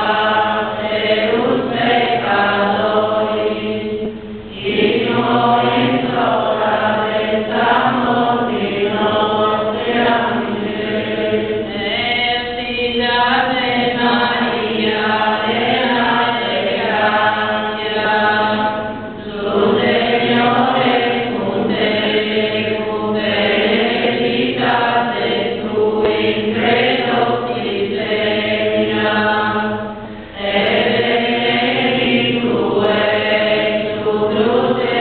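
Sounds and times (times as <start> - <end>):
congregation singing a hymn: 0.0 - 35.0.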